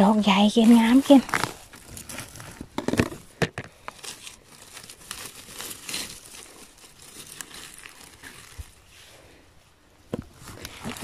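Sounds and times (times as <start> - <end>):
twigs and grass rustling by hand: 0.0 - 11.0.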